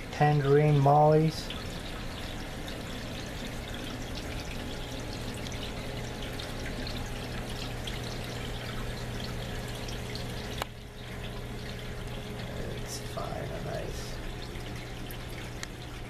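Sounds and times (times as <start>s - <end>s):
low steady hum: 0.0s - 16.0s
water trickling and splashing: 0.0s - 16.0s.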